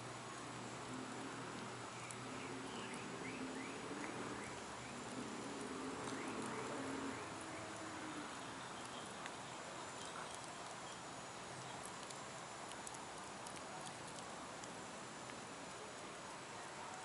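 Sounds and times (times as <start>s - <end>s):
bonfire hissing and crackling: 0.0s - 17.0s.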